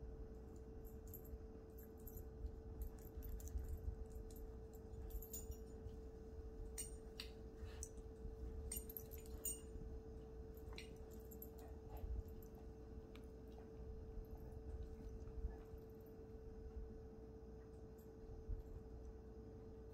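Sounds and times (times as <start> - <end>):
faint steady hum: 0.0 - 19.9
faint clicks and clinks: 0.3 - 16.4.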